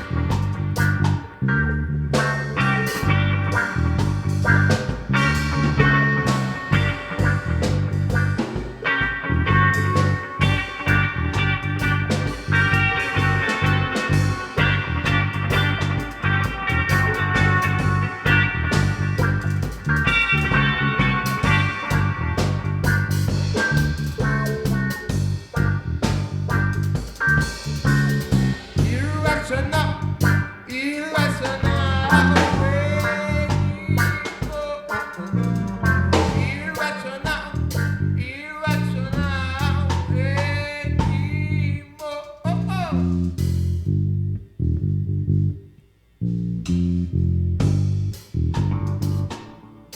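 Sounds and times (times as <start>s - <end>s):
reggae rock band playing: 0.0s - 44.3s, 46.3s - 49.9s.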